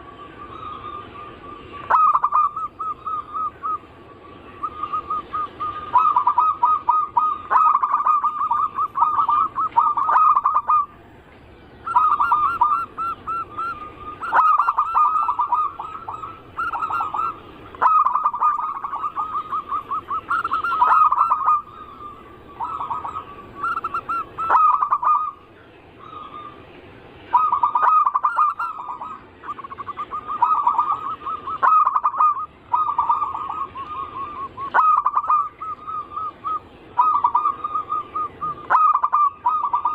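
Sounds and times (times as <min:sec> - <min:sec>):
doves cooing: 0:00.0 - 0:11.2, 0:11.8 - 0:39.9.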